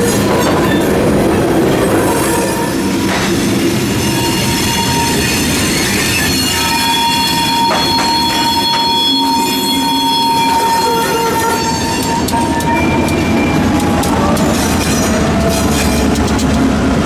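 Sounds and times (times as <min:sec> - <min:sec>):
diesel locomotive rumble: 0:00.0 - 0:17.0
wheels rumbling and clicking on track: 0:00.0 - 0:17.0
train wheels squealing: 0:02.1 - 0:16.2.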